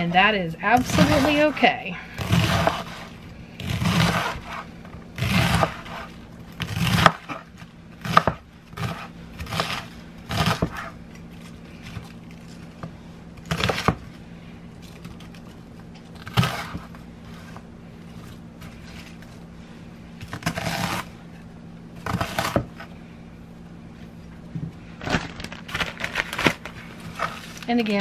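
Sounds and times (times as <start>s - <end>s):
knife crunching through cabbage: 0.8s - 12.8s, 13.4s - 19.4s, 20.2s - 21.3s, 22.0s - 22.9s, 25.0s - 28.0s.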